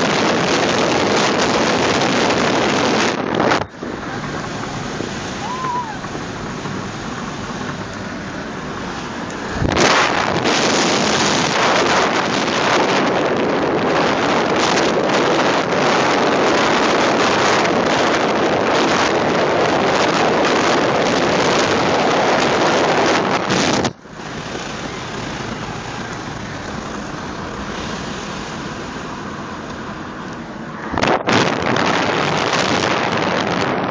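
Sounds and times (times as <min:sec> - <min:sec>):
road and engine noise: 0:00.0 - 0:33.9
wind buffeting microphone: 0:00.0 - 0:33.9.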